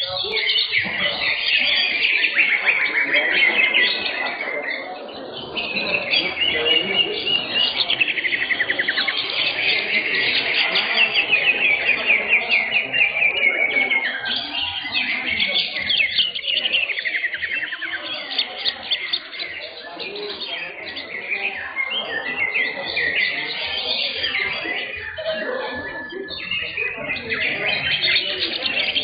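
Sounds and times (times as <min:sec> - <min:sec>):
birds chirping and trilling: 0:00.0 - 0:29.0.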